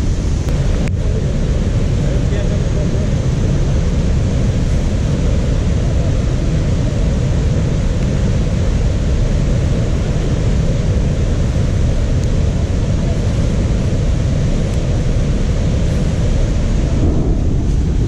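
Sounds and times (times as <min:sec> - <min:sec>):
rushing river roar: 0:00.0 - 0:18.0.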